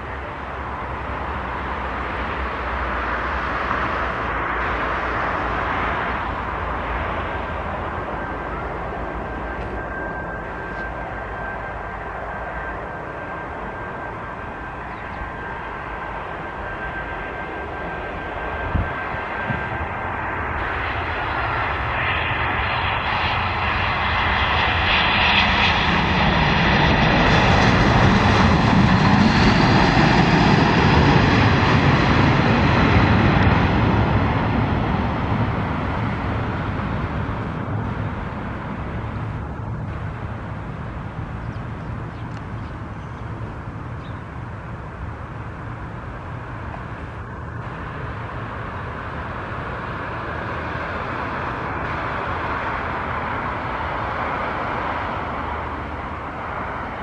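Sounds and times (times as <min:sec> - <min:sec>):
high jet fan whine: 0:00.0 - 0:57.0
jet airliner landing: 0:00.0 - 0:57.0.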